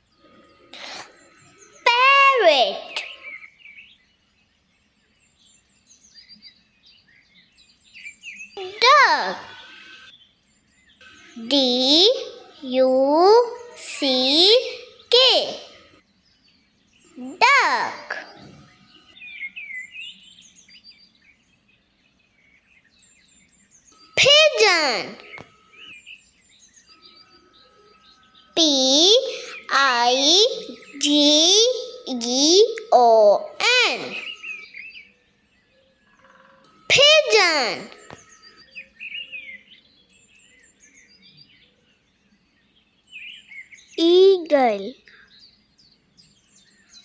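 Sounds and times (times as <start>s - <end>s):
songbirds chirping: 0.0s - 47.0s.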